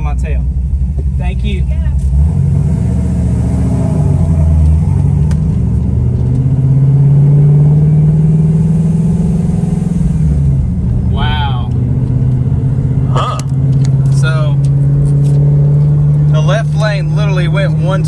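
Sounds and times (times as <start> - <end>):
car engine drone inside cabin: 0.0 - 18.0.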